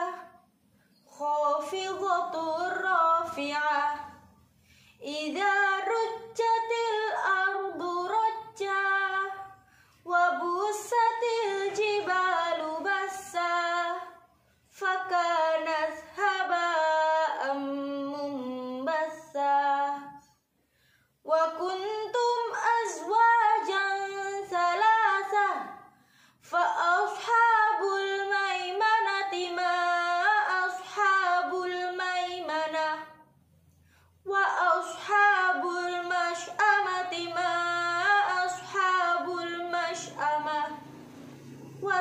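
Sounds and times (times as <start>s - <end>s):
woman reciting melodically: 0.0s - 20.3s, 21.2s - 33.3s, 34.2s - 42.0s.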